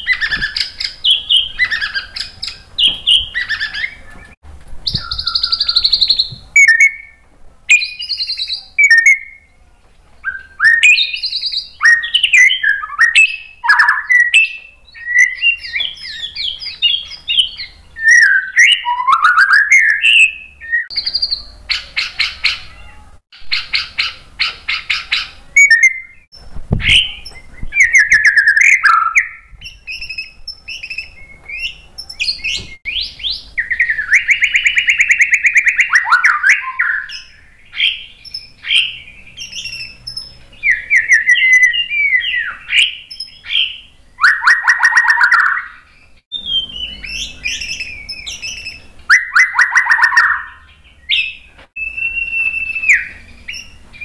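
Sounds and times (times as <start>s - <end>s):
bird singing varied song: 0.0s - 54.0s.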